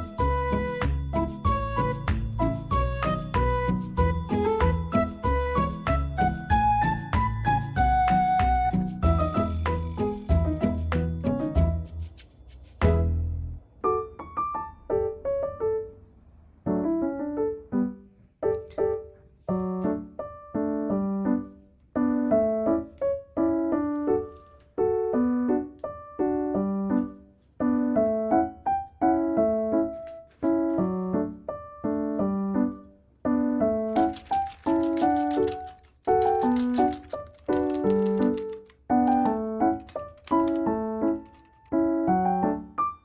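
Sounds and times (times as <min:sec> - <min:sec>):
gentle piano melody: 0:00.0 - 0:12.2, 0:12.8 - 0:43.0.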